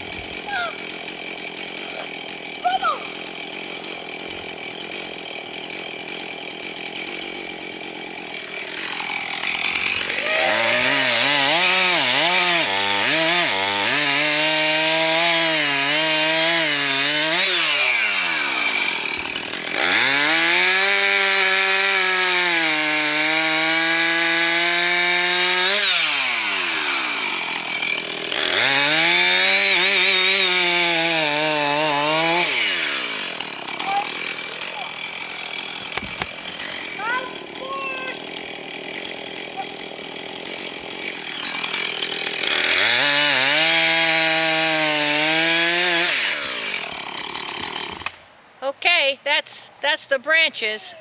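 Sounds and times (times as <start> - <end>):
chainsaw revving and cutting: 0.0 - 48.2.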